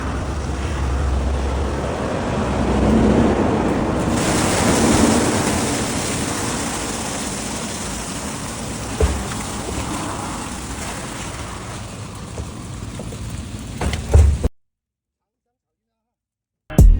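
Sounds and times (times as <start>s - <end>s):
water rushing and splashing: 0.0s - 14.5s.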